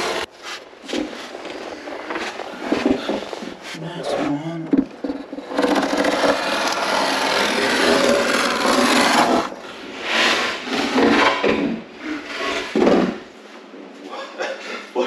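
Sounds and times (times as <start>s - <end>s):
scraping against fiberglass: 0.0s - 13.7s.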